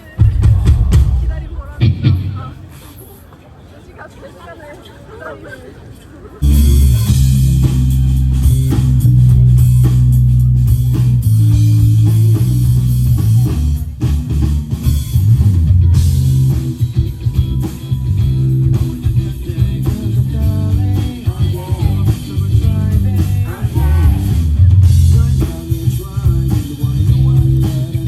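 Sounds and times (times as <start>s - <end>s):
rock band playing: 0.0s - 2.8s, 6.4s - 28.0s
heavy bass line: 0.2s - 2.7s, 6.4s - 28.0s.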